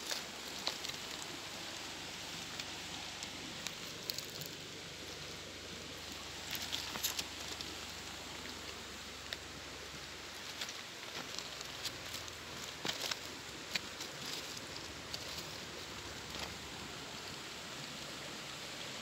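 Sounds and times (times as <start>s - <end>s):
pebbles crunching underfoot: 0.0s - 5.2s, 5.8s - 16.8s
steady hiss: 0.0s - 19.0s.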